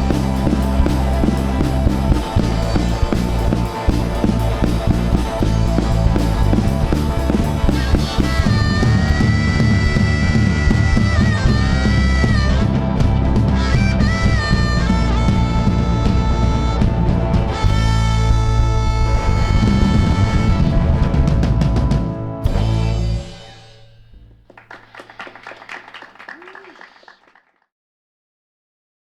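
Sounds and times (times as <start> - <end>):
rock band playing live: 0.0 - 23.8.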